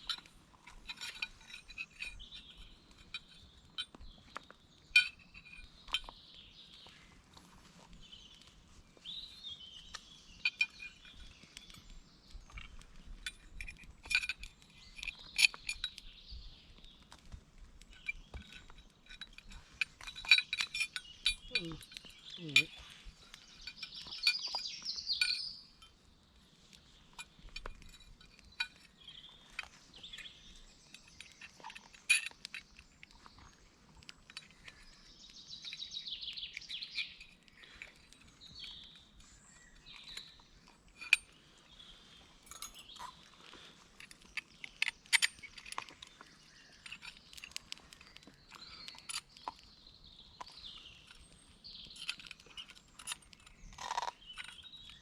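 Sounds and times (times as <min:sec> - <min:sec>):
birds singing: 0:00.0 - 0:55.0
gear clicking and clinking: 0:00.0 - 0:55.0.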